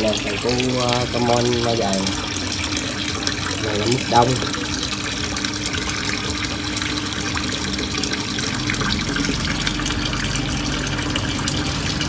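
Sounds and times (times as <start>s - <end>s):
low steady pump hum: 0.0s - 12.0s
water splashing into a tub: 0.0s - 12.0s.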